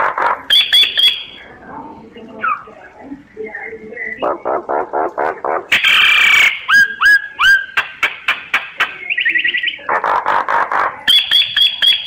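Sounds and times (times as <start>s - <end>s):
myna calling: 0.0s - 1.6s, 2.2s - 12.0s.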